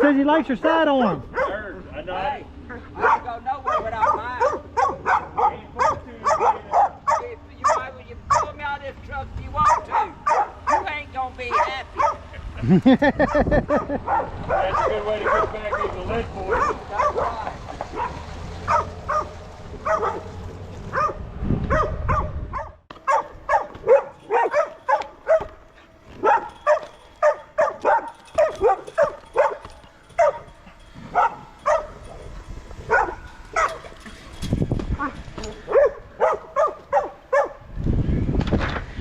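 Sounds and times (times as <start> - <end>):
dog barking: 1.2 - 1.8, 2.7 - 8.6, 9.6 - 12.4, 13.1 - 34.0, 35.0 - 37.7.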